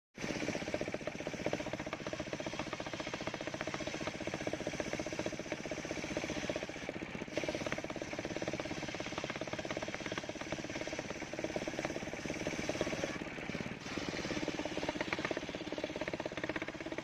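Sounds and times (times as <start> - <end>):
sawmill engine running: 0.2 - 17.0.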